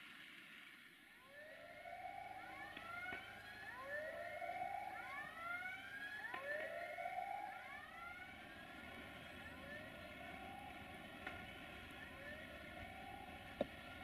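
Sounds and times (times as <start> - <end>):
warning siren rising wails: 1.1 - 14.0.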